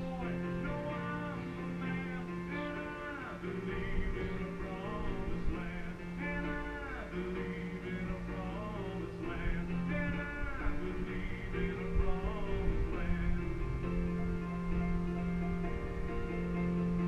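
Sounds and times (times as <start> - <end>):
person singing: 0.0 - 14.2.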